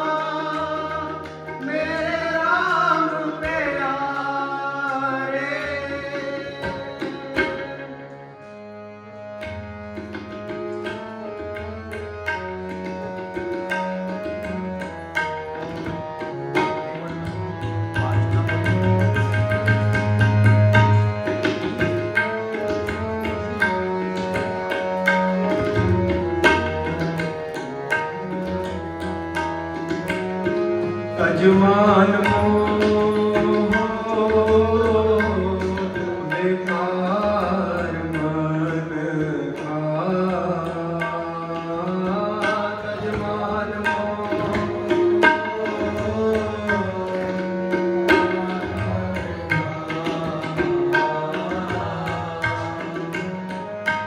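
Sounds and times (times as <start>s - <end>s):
harmonium notes: 0.0s - 54.0s
tabla rhythm: 0.0s - 54.0s.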